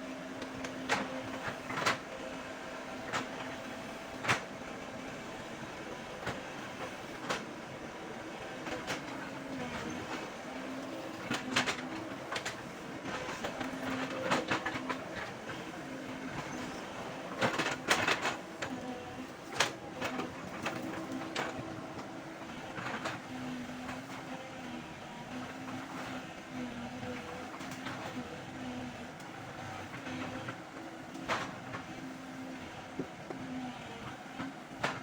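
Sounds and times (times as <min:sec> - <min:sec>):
excavator engine whining: 0:00.0 - 0:34.6.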